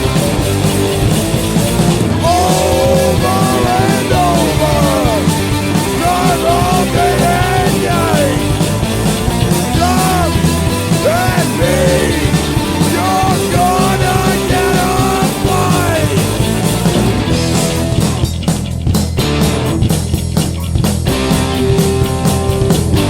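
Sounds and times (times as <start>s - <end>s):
instrumental punk rock band: 0.0s - 23.0s
melodic lead guitar line: 0.0s - 23.0s.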